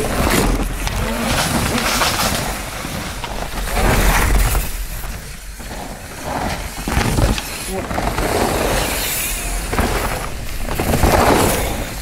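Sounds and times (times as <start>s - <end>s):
bike rattling and knocking: 0.0s - 12.0s
bike tyres skidding on dirt: 0.0s - 12.0s.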